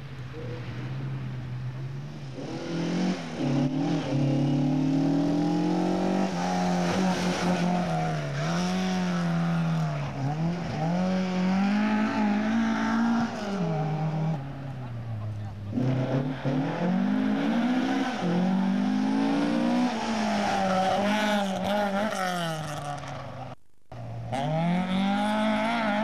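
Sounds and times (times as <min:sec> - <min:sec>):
rally car engine revving: 0:02.2 - 0:26.0.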